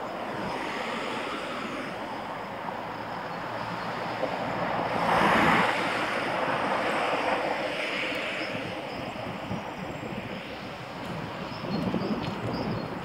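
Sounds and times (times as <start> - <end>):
car passing close: 0.0 - 13.0
road and engine noise: 0.0 - 13.0
wind rushing over microphone: 0.0 - 13.0.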